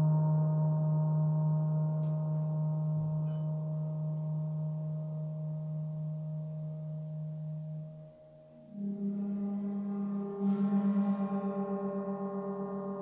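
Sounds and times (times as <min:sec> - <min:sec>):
gong deep hum: 0:00.0 - 0:13.0.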